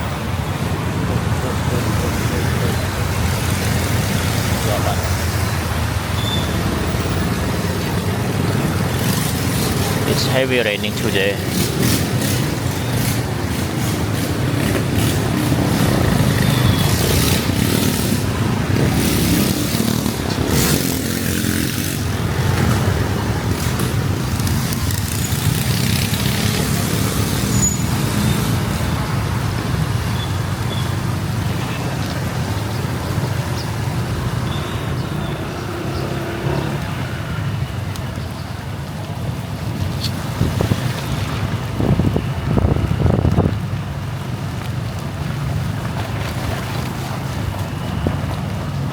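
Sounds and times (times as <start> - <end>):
low rumble of engines: 0.0 - 48.9
wind: 0.0 - 48.9.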